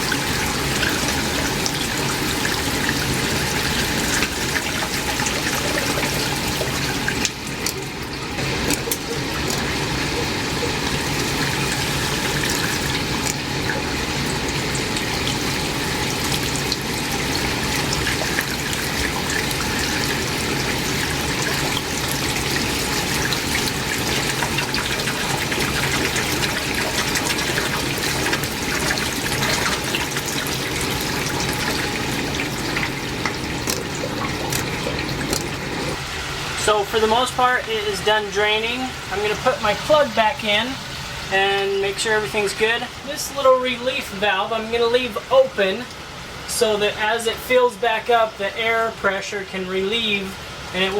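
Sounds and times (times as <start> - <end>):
water running from drain: 0.0 - 50.9.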